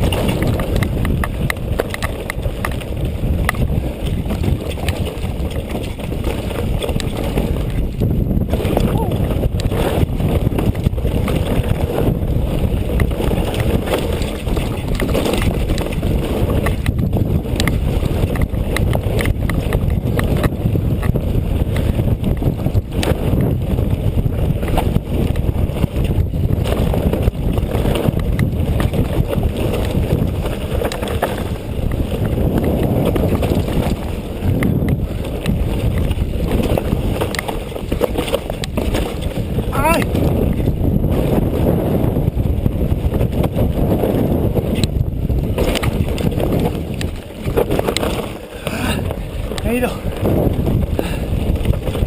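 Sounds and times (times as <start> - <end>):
bike clicks and knocks: 0.0 - 52.0
bike tyres and frame rattling: 0.0 - 52.0
wind buffeting microphone: 0.0 - 52.0.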